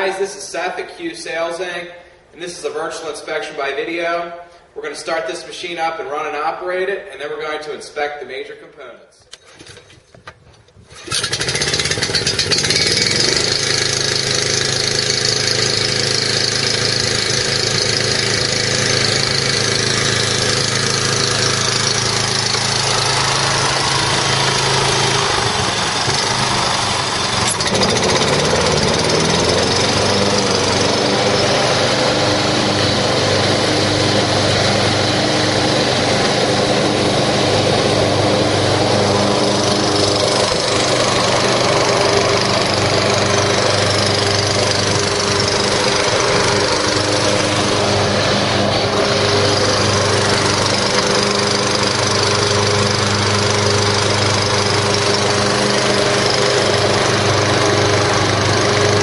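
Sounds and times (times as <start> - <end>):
lawn mower engine running: 9.3 - 59.0.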